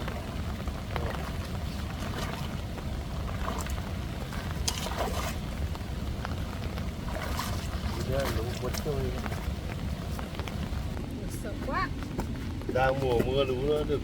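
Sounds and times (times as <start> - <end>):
faint water splashes: 0.0 - 13.8
floodwater rushing: 0.0 - 13.8.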